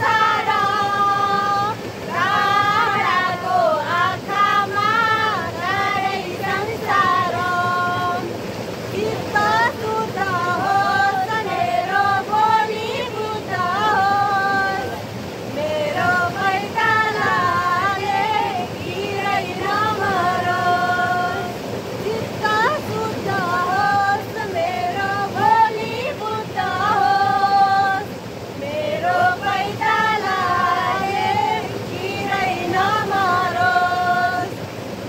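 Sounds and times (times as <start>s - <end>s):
woman singing: 0.0s - 8.3s, 8.9s - 34.6s
river water rushing: 0.0s - 35.0s.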